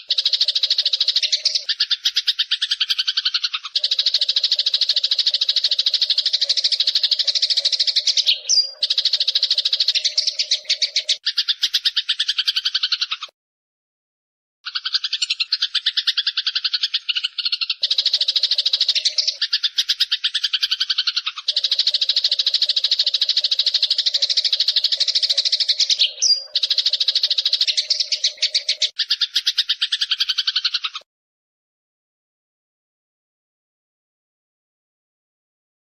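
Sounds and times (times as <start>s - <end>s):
sparrow chirping: 0.0s - 13.3s, 14.7s - 31.0s.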